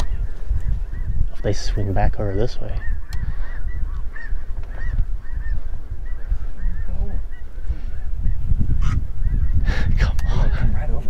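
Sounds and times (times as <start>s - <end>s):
geese calling: 0.0s - 10.8s
wind rumbling on microphone: 0.0s - 11.0s.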